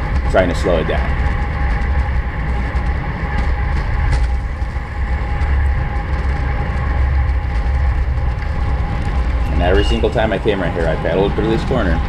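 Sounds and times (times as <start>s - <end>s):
bicycle road and drivetrain noise: 0.0s - 12.0s
wind rumbling on microphone: 0.0s - 12.0s.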